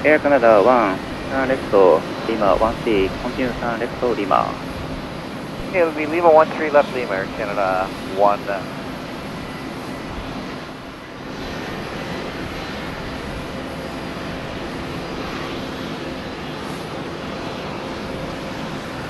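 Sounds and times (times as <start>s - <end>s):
jet engines idling: 0.0s - 19.0s.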